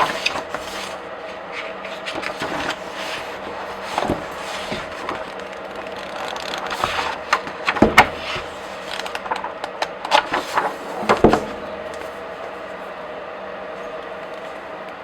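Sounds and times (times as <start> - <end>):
comic book pages flipping: 0.0 - 12.3.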